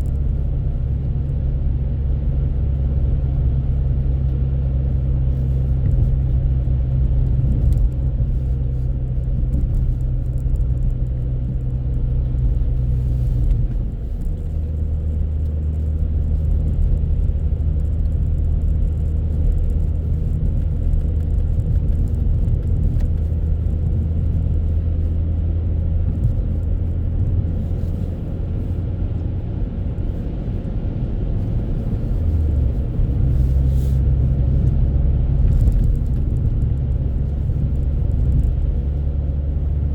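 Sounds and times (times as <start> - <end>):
moving vehicle rumble: 0.0 - 39.9.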